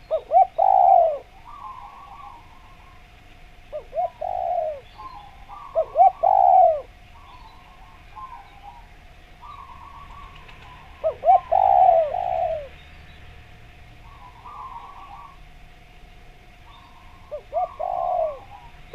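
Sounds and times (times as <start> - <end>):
dove cooing: 0.0 - 12.8, 14.0 - 15.6, 16.3 - 18.9.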